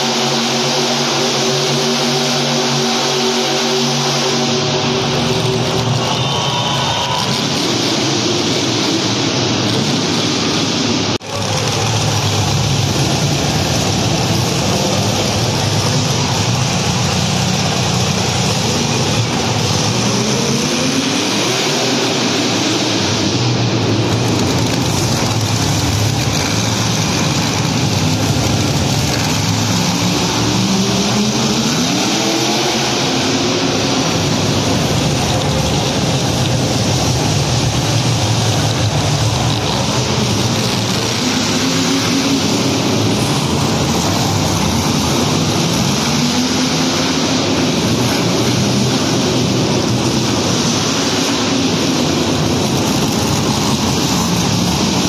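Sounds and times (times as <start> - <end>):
monster truck engines revving: 0.0 - 55.0.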